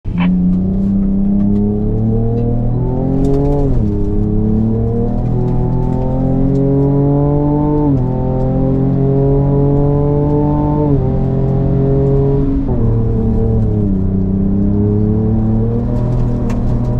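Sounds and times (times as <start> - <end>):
engine accelerating through gears: 0.1 - 16.9.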